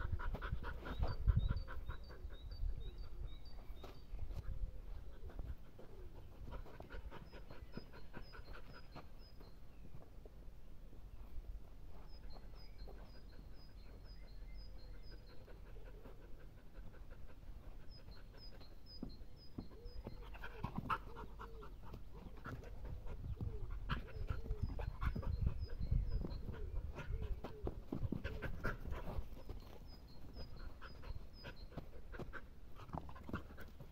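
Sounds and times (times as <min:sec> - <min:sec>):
dog panting: 0:00.0 - 0:09.6, 0:12.1 - 0:33.9
bird chirping: 0:00.4 - 0:33.8.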